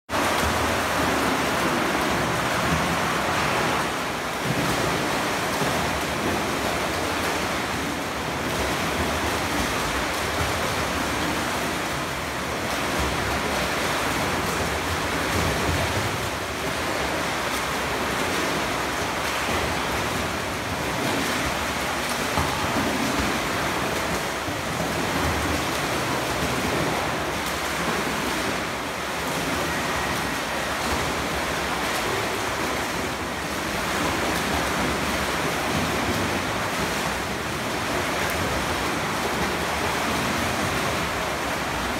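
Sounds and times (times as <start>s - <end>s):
swimmers splashing: 0.1s - 41.9s.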